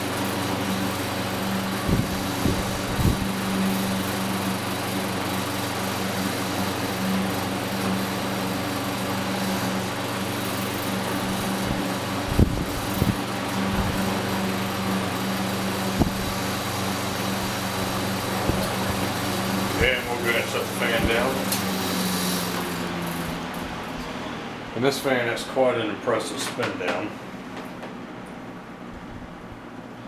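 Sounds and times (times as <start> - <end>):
fan motor hum: 0.0 - 30.0
fan rattling: 0.0 - 30.0.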